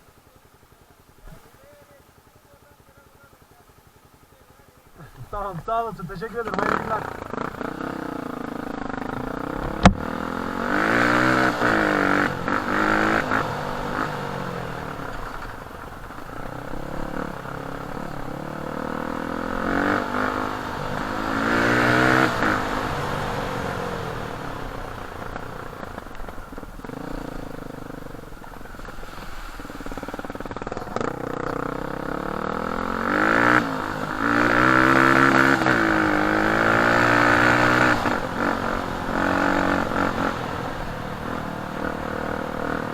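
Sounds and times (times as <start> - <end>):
dirt bike engine revving: 0.2 - 42.9.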